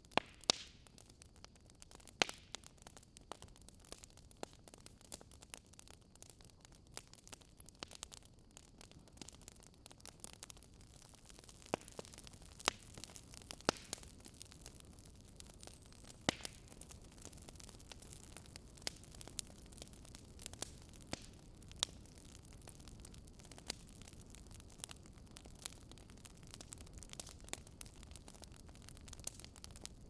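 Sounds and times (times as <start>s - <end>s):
soft steady hiss: 0.0s - 30.0s
wood fire crackling: 0.0s - 30.0s.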